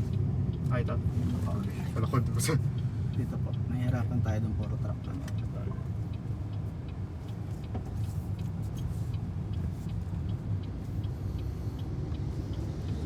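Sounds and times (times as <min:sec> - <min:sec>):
road and tyre rumble: 0:00.0 - 0:13.0
faint light ticking: 0:01.6 - 0:13.0.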